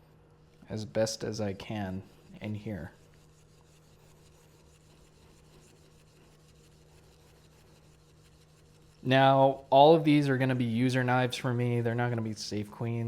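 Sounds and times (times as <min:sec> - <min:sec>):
wire brush scrubbing metal: 0:00.4 - 0:11.2.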